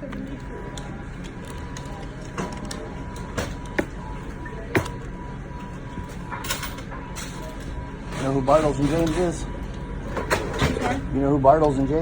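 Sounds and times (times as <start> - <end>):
steady hum: 0.0 - 12.0
store background music: 0.2 - 12.0.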